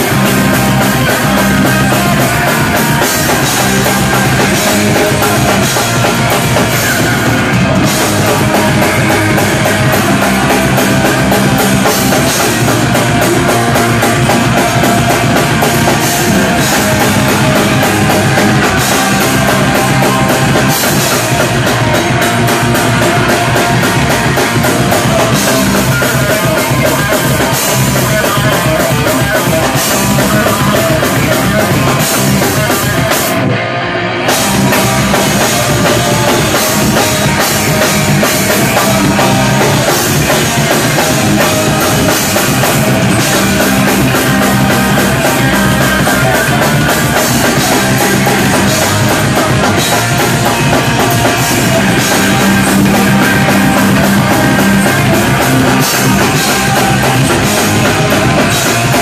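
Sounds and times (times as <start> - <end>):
live punk rock band: 0.0 - 59.0.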